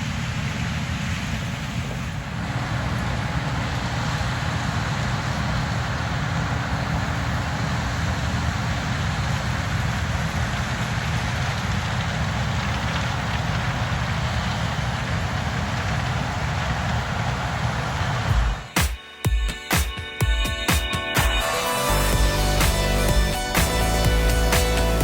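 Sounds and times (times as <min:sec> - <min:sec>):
combine harvester engine drone: 0:00.0 - 0:18.8, 0:21.1 - 0:25.0
steady hum: 0:00.0 - 0:25.0.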